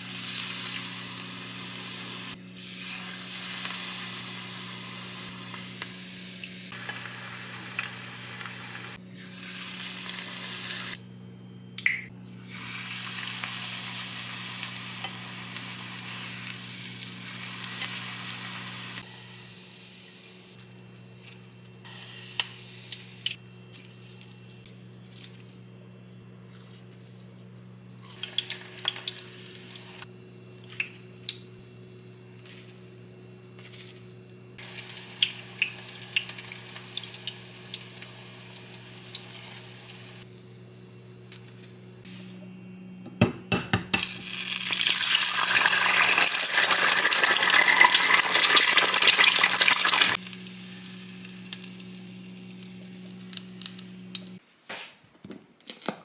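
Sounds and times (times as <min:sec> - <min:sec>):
oil sizzling: 0:00.0 - 0:11.0, 0:12.2 - 0:24.7, 0:28.0 - 0:34.0, 0:34.6 - 0:42.1, 0:44.0 - 0:54.4.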